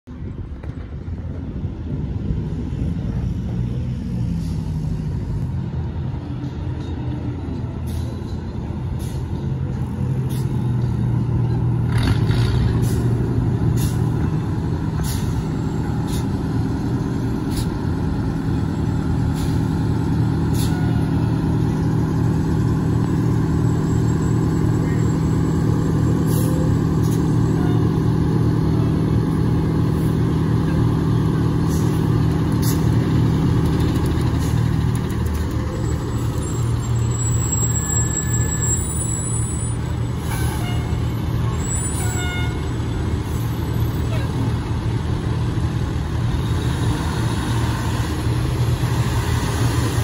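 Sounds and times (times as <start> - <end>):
fire truck engines droning: 0.0 - 50.0.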